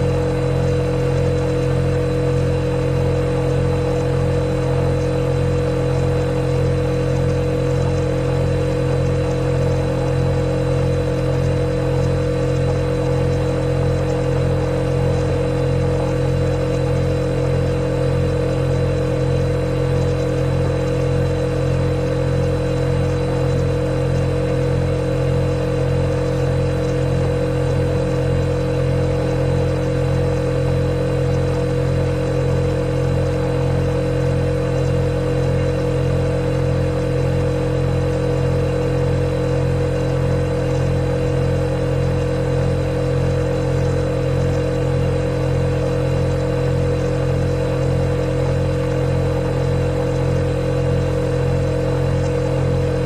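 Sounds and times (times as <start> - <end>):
refrigerator humming: 0.0 - 53.0.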